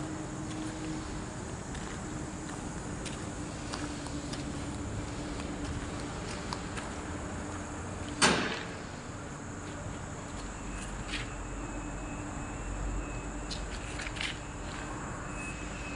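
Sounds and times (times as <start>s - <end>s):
steady background hum: 0.0s - 15.9s.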